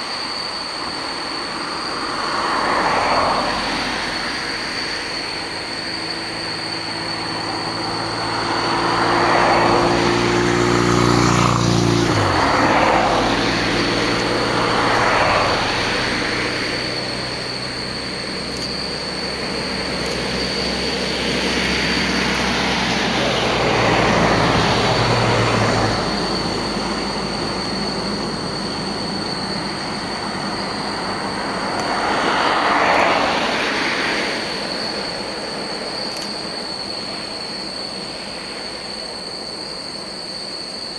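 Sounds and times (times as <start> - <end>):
jet engines whining: 0.0 - 40.9.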